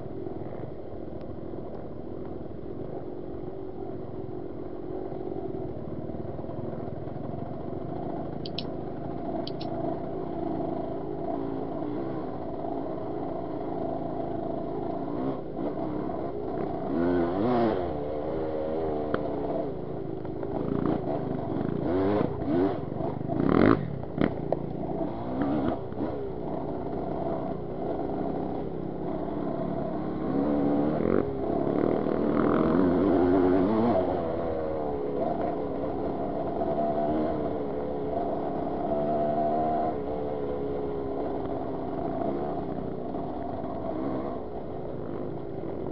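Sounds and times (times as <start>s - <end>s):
two-stroke motorcycle engine revving: 6.6s - 45.9s.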